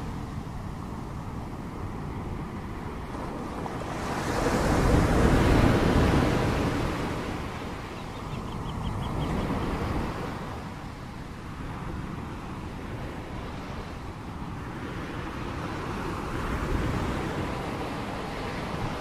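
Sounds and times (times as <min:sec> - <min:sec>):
ocean waves washing in: 0:00.0 - 0:19.0.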